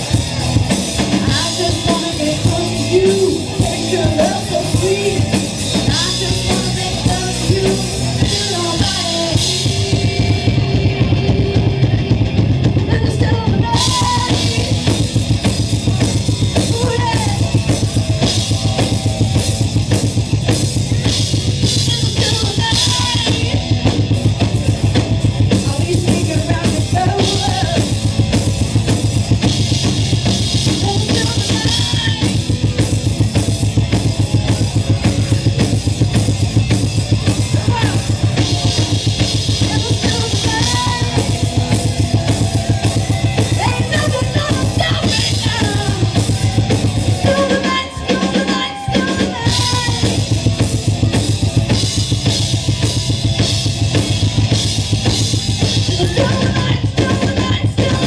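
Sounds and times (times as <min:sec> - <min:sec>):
drum kit: 0:00.0 - 0:58.0
electric guitar: 0:00.0 - 0:58.0
live rock band: 0:00.0 - 0:58.0.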